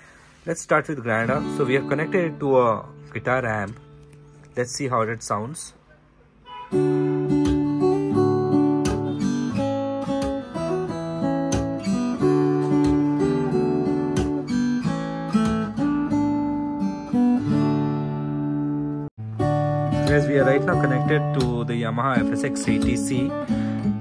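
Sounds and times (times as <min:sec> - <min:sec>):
amplified guitar chords and picked notes: 0:01.2 - 0:04.5, 0:06.7 - 0:24.0.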